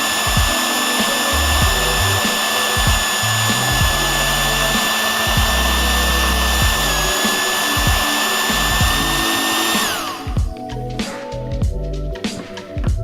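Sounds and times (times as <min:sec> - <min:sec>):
hair dryer running: 0:00.0 - 0:10.6.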